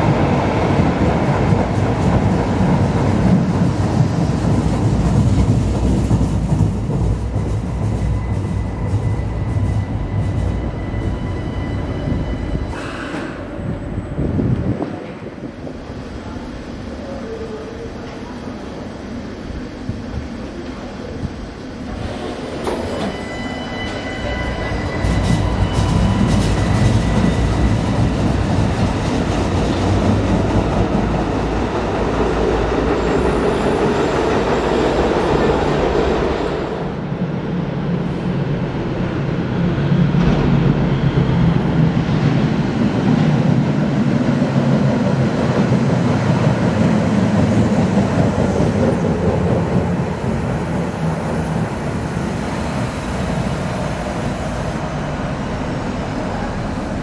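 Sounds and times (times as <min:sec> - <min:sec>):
light-rail train rumbling in tunnel: 0:00.0 - 0:57.0.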